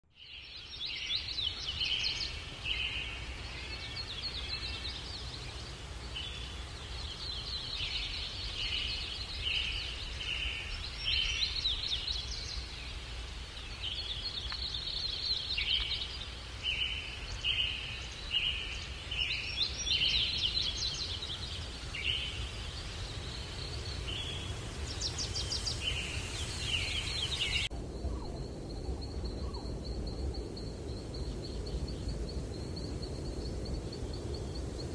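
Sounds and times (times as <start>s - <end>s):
small forest birds calling: 0.0s - 34.9s.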